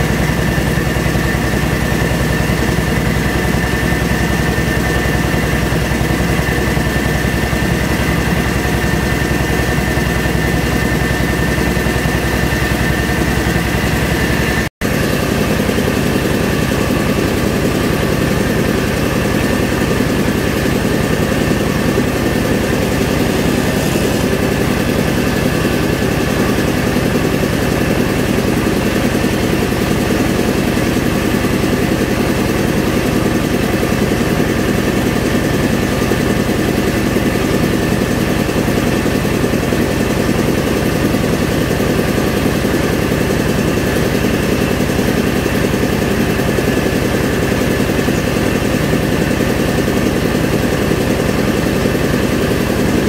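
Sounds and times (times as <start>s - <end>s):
rice milling machine droning: 0.0s - 53.0s.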